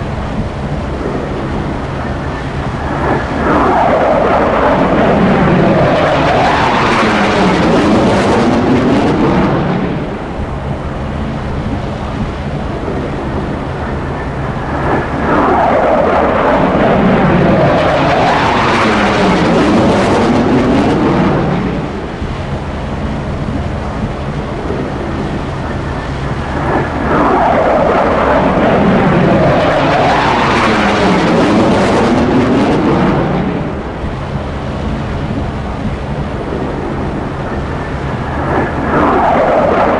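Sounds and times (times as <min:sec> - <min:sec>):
fighter jets roaring past: 0:00.0 - 0:39.9.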